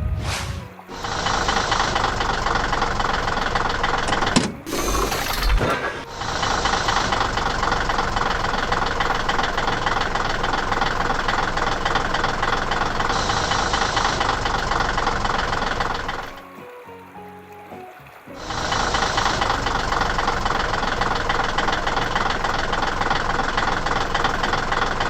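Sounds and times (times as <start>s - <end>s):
vehicle engine rattling: 1.0s - 16.4s, 18.6s - 25.0s.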